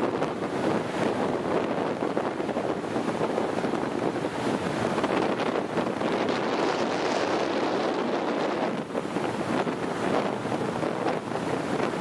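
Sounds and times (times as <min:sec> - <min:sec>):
hydrofoil boat rushing past: 0:00.0 - 0:12.0
wind noise on microphone: 0:00.0 - 0:12.0.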